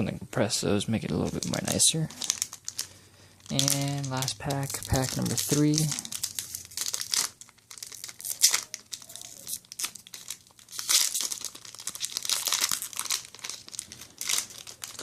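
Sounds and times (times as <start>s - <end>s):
foil pack tearing and crinkling: 1.1s - 15.0s.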